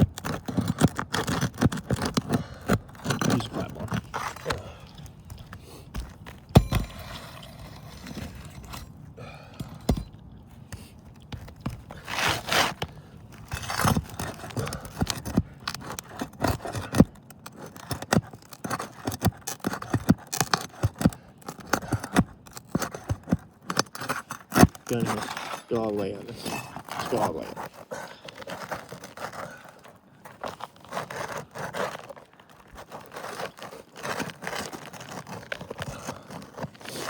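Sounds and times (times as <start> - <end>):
pry bar scraping shingles: 0.0 - 37.0.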